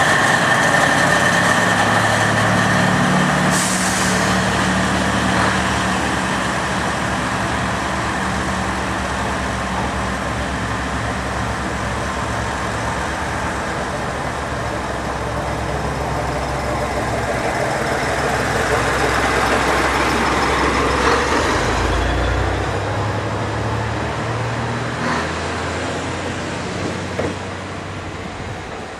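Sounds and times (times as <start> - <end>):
diesel railcar engine running: 0.0 - 28.9.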